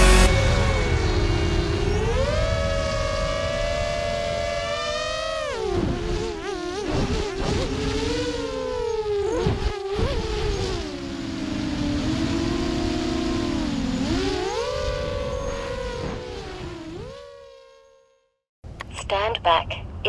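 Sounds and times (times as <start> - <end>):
electric motors and propellers whining: 0.0 - 18.2.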